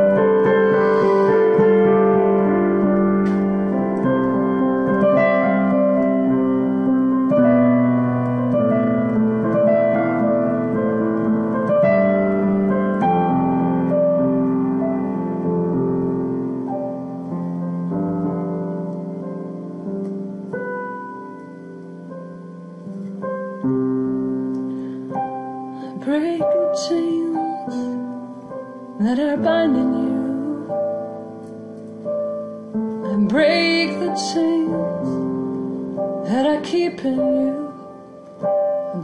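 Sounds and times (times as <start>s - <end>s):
solo piano chords: 0.0s - 39.0s.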